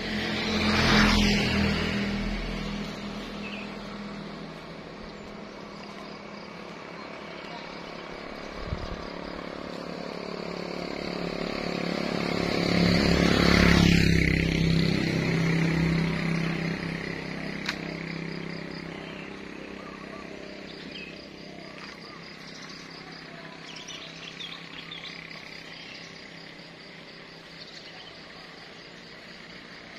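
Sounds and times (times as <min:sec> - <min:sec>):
motor vehicle passing by: 0:00.0 - 0:29.9.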